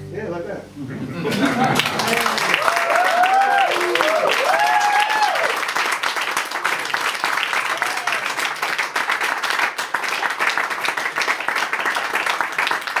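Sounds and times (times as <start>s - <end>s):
small audience clapping: 1.3s - 13.0s.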